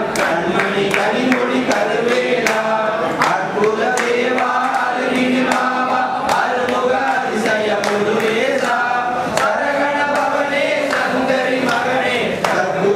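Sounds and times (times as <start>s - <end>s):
men chanting together: 0.0s - 12.9s.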